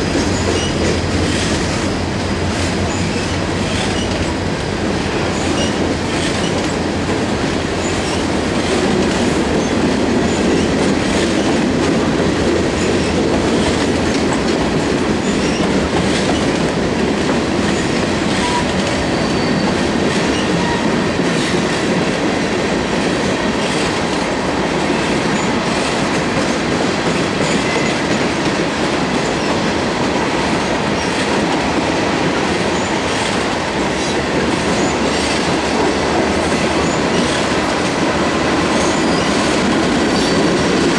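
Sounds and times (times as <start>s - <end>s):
clickety-clack over rail joints: 0.0s - 40.9s
freight train wheels rumbling on rail: 0.0s - 40.9s.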